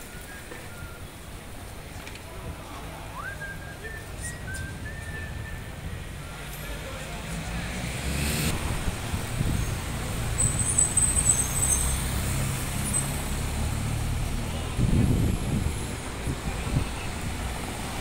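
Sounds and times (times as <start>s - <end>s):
vehicles passing with engine rumble: 0.0s - 18.0s.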